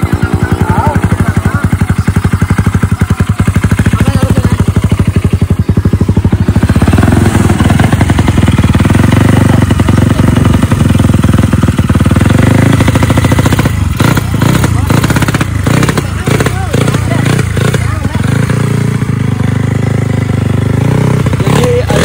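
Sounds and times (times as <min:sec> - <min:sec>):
moped engine revving: 0:00.0 - 0:22.0.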